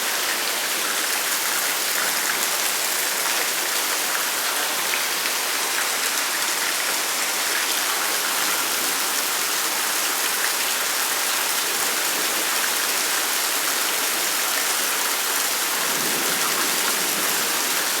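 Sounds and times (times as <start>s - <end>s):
rain pouring: 0.0s - 18.0s.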